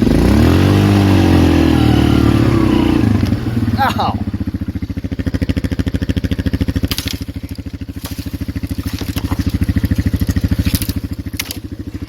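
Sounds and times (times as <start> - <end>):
atv engine putting: 0.0 - 12.0.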